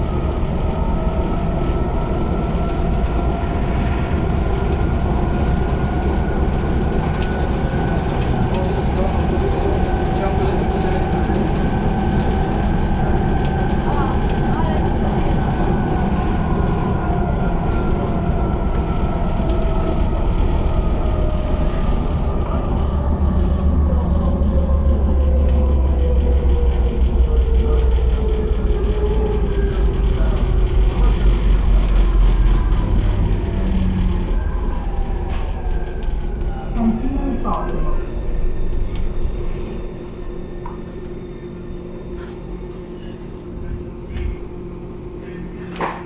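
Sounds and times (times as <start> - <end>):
train motors whining: 0.0 - 45.0
wheels rumbling on rail: 0.0 - 46.0.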